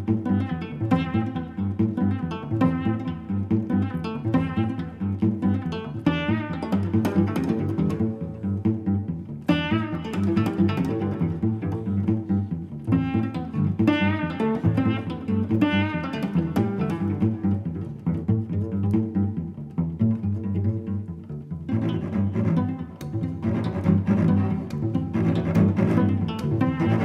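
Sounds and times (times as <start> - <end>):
bowed and plucked low strings: 0.0 - 27.0.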